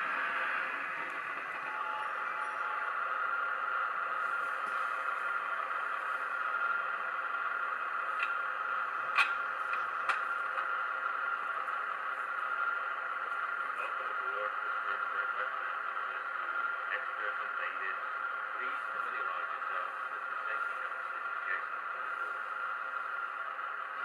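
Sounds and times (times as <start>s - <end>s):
diesel engine sound from speaker: 0.0s - 24.0s.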